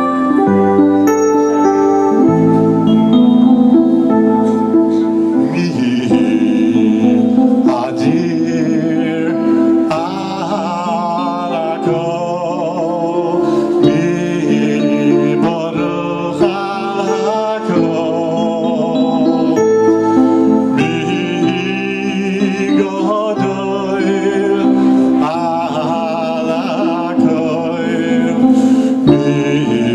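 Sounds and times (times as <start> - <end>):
live band with keyboard: 0.0 - 29.9
man singing into microphone: 4.9 - 29.9.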